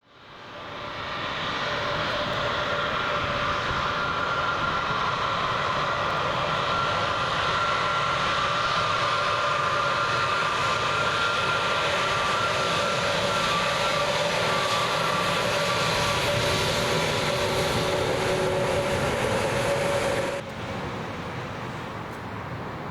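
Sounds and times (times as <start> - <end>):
jet engines whining: 0.2 - 21.8.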